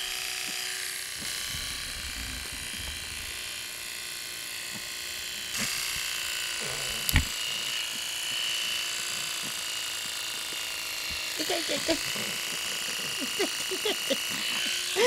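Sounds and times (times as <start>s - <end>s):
electric clippers shaving fur: 0.0s - 15.0s.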